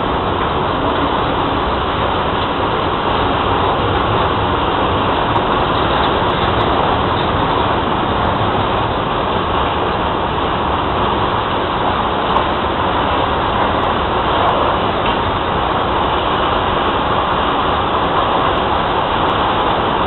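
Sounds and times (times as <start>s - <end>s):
train wheels rolling on rail: 0.0s - 20.0s.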